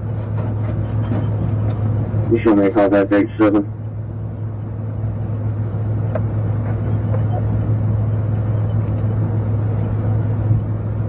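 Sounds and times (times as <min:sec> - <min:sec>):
car engine idling hum: 0:00.0 - 0:11.0.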